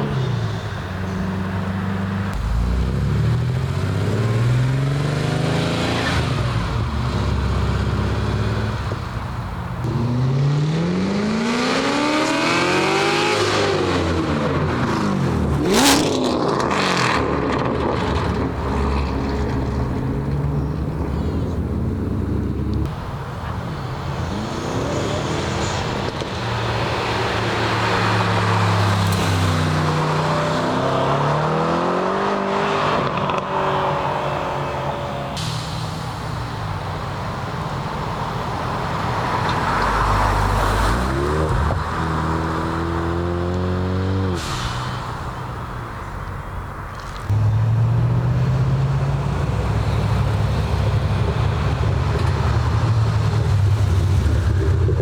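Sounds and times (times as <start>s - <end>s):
car engines revving past: 0.0s - 55.0s.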